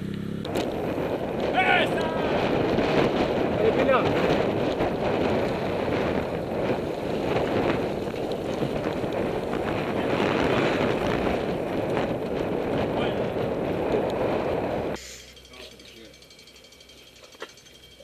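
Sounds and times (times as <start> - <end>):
bicycle tyre noise: 0.0 - 18.0
wind rushing over microphone: 0.5 - 15.0.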